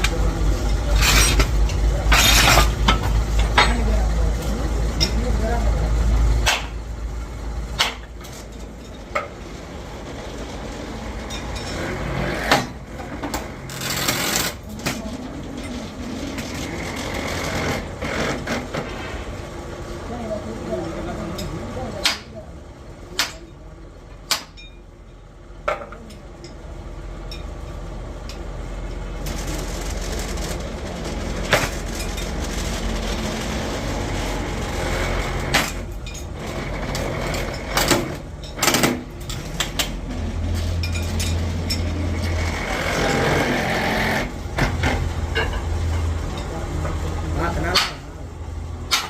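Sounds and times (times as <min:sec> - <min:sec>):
workshop machinery running: 0:00.0 - 0:49.0.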